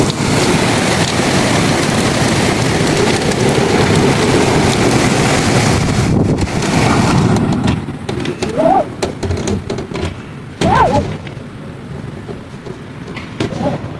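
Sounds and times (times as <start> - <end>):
heavy rain rushing: 0.0 - 13.9
wind buffeting microphone: 0.0 - 13.9.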